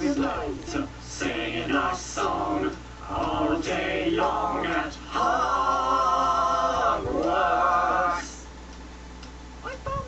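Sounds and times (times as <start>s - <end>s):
a cappella choir singing: 0.0s - 8.5s.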